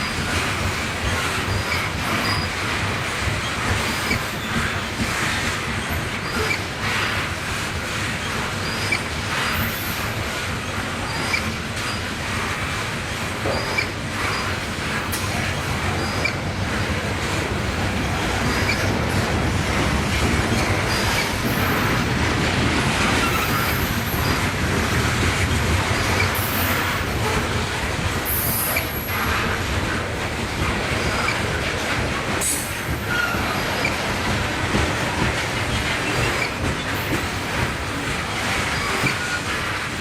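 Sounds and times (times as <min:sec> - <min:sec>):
freight train rumbling on rails: 0:00.0 - 0:40.0
rail clatter: 0:00.0 - 0:40.0.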